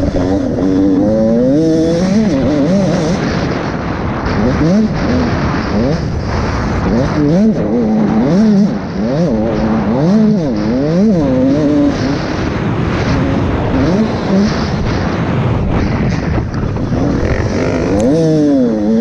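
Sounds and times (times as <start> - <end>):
motocross engine revving: 0.0 - 19.0
wind and track noise: 0.0 - 19.0.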